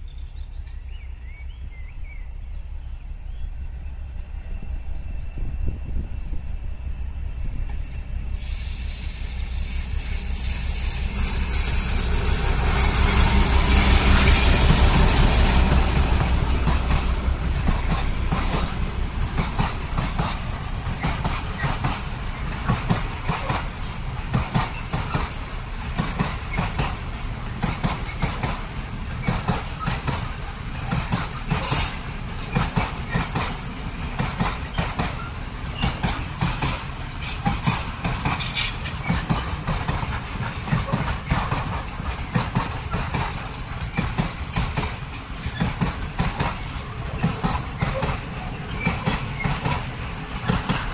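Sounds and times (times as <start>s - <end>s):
diesel locomotive engine rumbling: 0.0s - 50.9s
train wheels clattering over rail joints: 7.7s - 50.9s.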